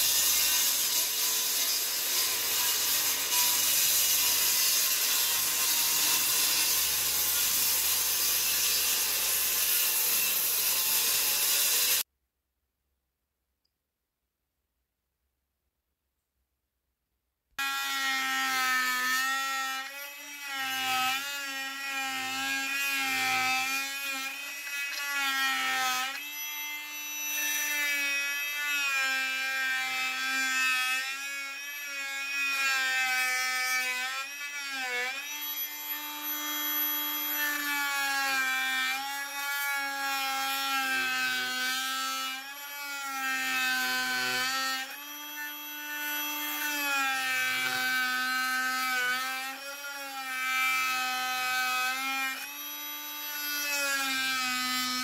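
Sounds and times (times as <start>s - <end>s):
multi-tool cutting wood whine: 0.0s - 12.1s, 17.6s - 55.0s.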